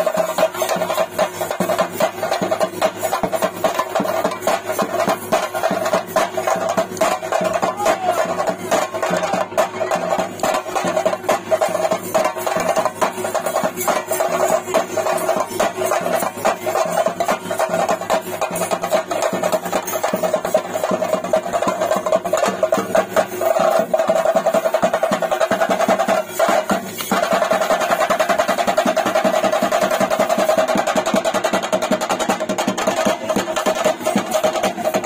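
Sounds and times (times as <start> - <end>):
fast ritual drumming: 0.0 - 35.0.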